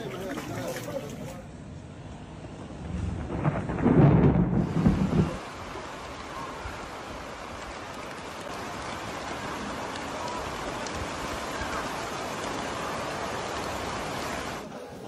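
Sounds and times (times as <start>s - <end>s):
steady rain: 1.8s - 15.0s.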